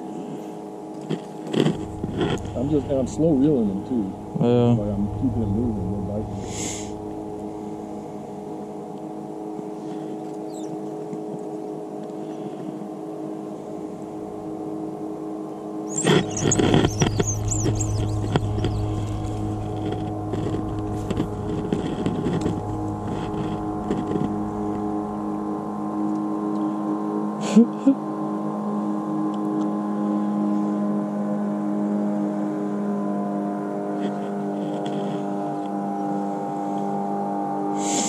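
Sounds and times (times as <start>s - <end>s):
boat motor humming: 0.0s - 38.0s.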